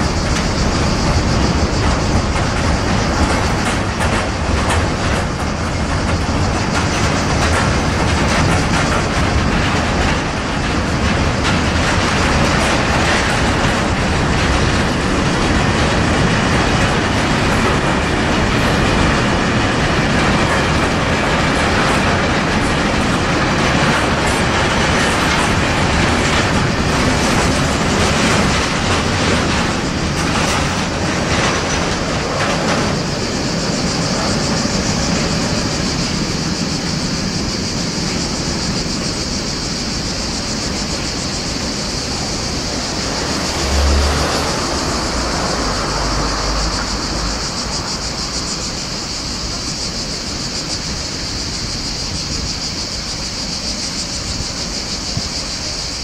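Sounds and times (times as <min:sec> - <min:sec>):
freight train wagons rumbling: 0:00.0 - 0:56.0
steady high hiss: 0:00.0 - 0:56.0.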